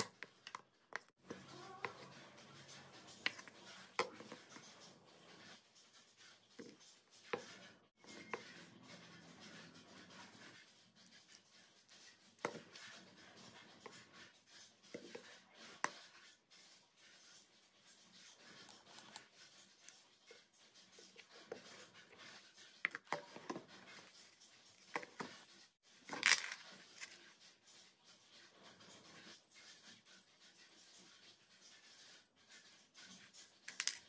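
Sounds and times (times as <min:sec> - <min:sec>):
wooden parts rubbing on tabletop: 0:00.0 - 0:34.0.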